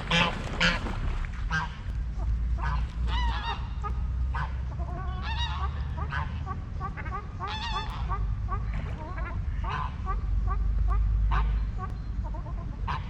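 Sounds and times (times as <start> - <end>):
steady low rumble: 0.0 - 13.0
waterfowl honking: 0.0 - 13.0.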